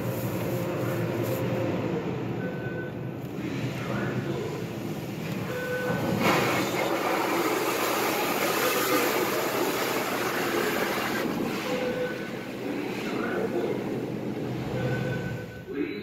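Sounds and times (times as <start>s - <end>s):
car wash water jets spraying: 0.0s - 1.6s, 3.7s - 15.5s.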